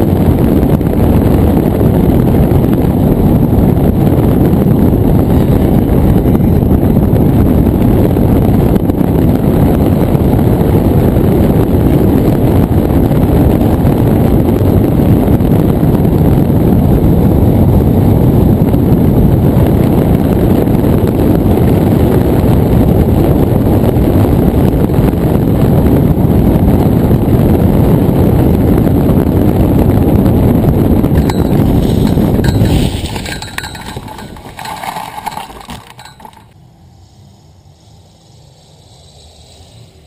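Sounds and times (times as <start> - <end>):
loud wind buffeting microphone: 0.0 - 40.0.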